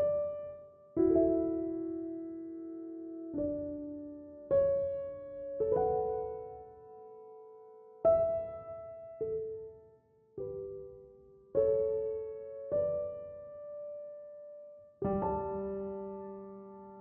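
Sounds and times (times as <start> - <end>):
soft solo piano music: 0.0 - 17.0.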